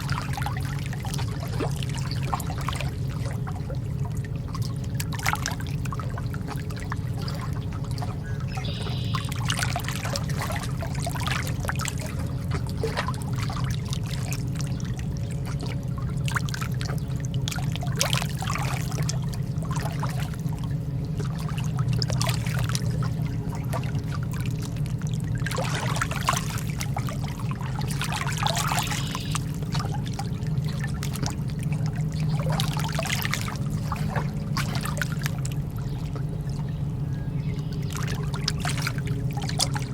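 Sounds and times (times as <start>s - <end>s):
lake water lapping: 0.0s - 39.9s
steady low rumble: 0.0s - 39.9s.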